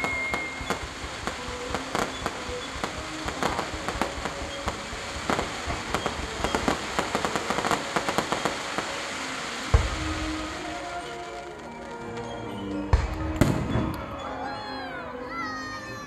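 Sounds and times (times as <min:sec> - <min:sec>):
fireworks crackling pops: 0:00.0 - 0:14.1.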